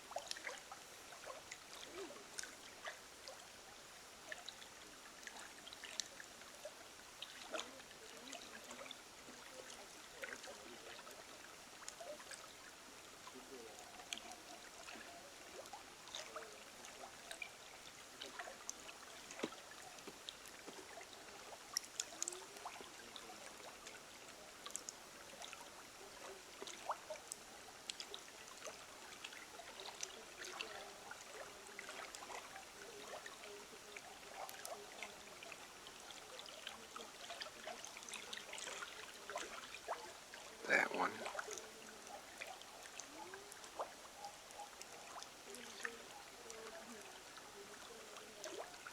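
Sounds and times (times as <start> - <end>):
water drips and plinks: 0.0 - 48.9
water trickling: 0.0 - 48.9.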